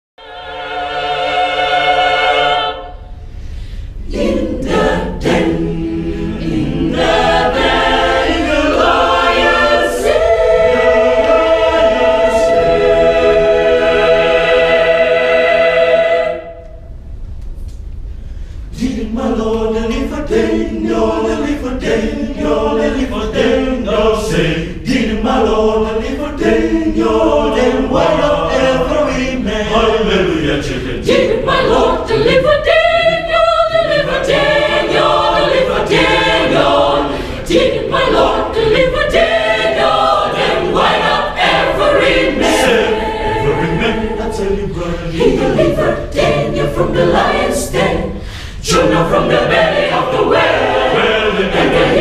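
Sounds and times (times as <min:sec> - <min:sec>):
choir singing a cappella: 0:00.2 - 0:16.9, 0:18.7 - 0:52.0.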